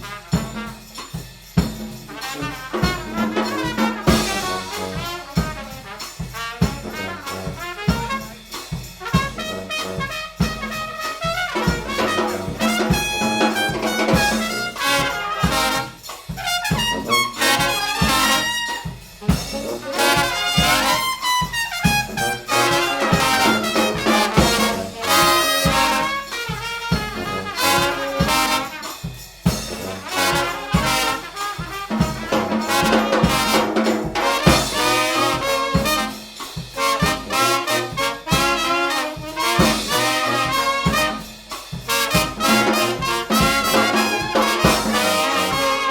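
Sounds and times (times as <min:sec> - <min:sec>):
steady drum beat: 0:00.0 - 0:45.9
trumpets and trombones: 0:00.0 - 0:45.9.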